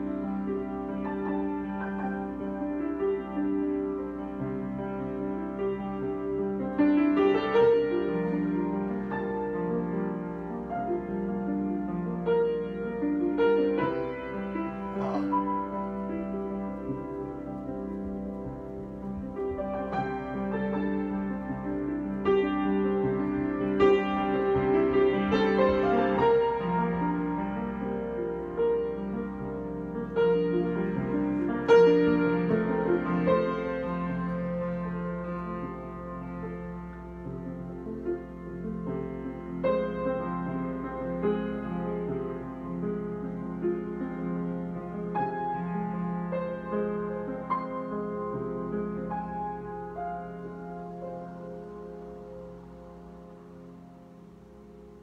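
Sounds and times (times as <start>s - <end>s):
solo piano chords: 0.0s - 55.0s.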